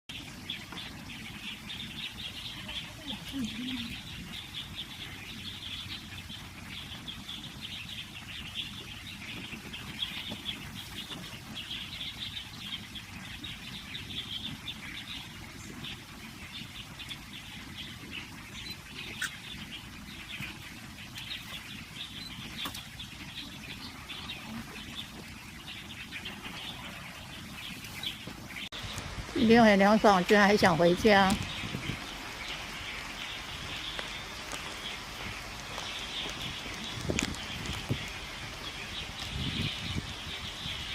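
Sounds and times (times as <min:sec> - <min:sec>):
birds chirping: 0:00.0 - 0:40.9
insects calling: 0:00.2 - 0:40.9.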